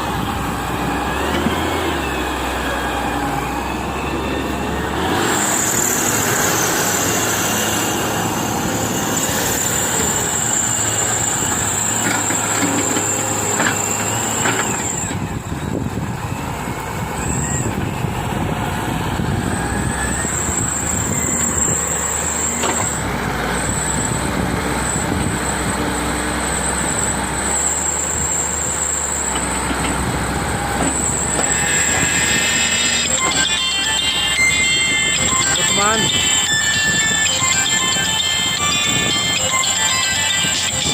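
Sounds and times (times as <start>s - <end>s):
excavator engine and hydraulics: 0.0s - 40.9s.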